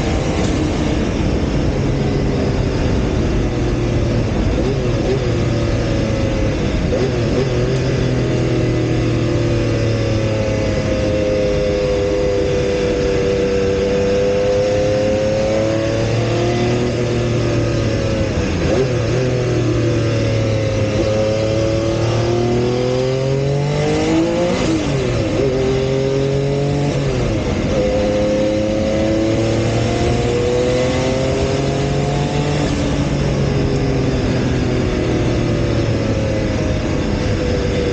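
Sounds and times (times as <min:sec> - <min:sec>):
race car engine revving: 0:00.0 - 0:37.8
wind and road noise: 0:00.0 - 0:37.9.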